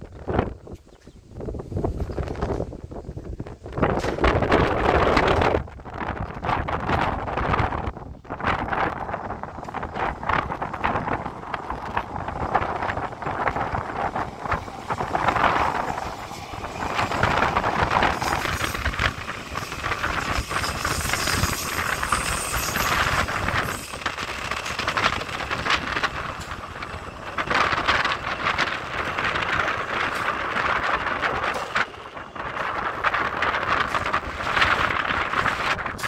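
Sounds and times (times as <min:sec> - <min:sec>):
electric train rumbling and rattling: 0:00.0 - 0:36.0
wind buffeting microphone: 0:00.0 - 0:36.0.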